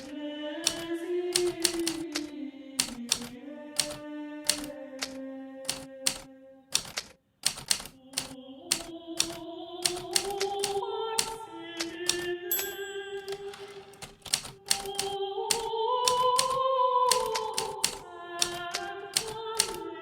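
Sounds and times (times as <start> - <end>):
typewriter keystroke clicks: 0.0 - 19.8.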